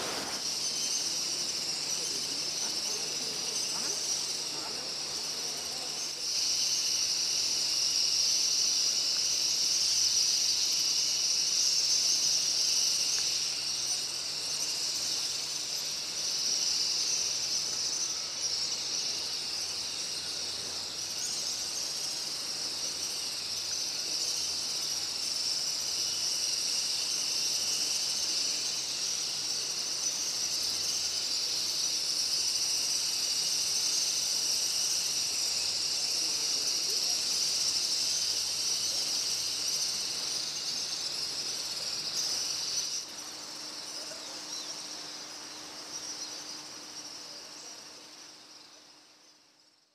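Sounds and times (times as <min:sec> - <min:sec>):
shrill insect drone: 0:00.0 - 0:49.9.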